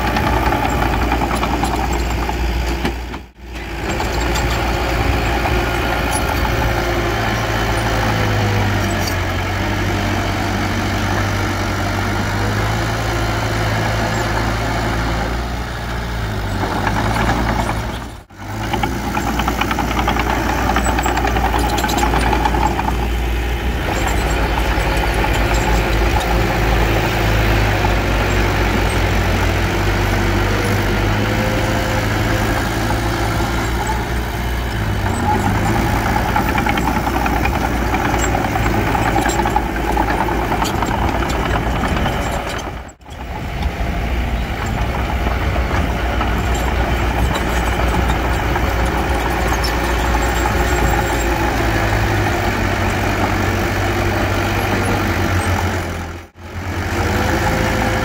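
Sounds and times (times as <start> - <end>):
diesel engine working: 0.0 - 58.0.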